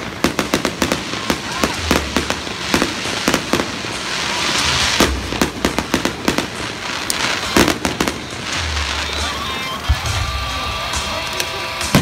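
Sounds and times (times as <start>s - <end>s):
crackling hiss: 0.0s - 12.0s
fireworks bangs: 0.0s - 12.0s.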